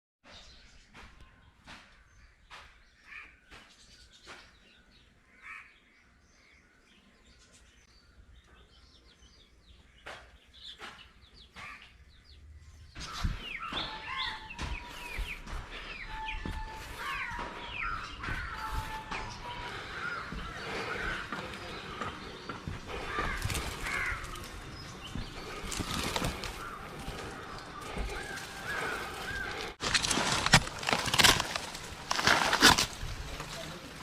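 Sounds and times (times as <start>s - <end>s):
birds chirping and calling: 0.2s - 34.0s.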